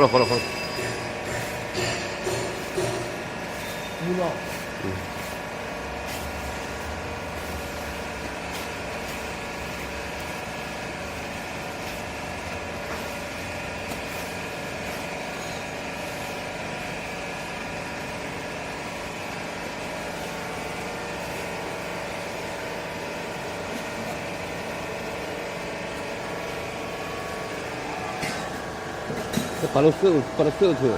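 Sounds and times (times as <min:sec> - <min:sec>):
hydraulic power unit hum: 0:00.0 - 0:30.9.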